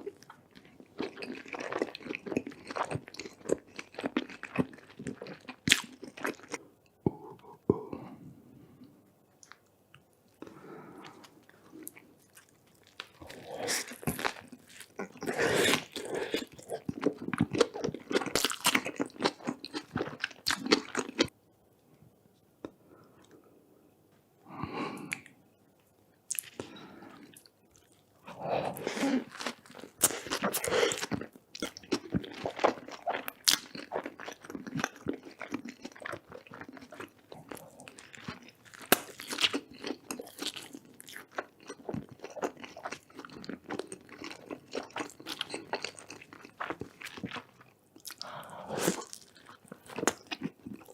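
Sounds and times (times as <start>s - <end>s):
person chewing crunchy food: 0.0s - 7.5s, 10.4s - 21.3s, 26.3s - 50.9s.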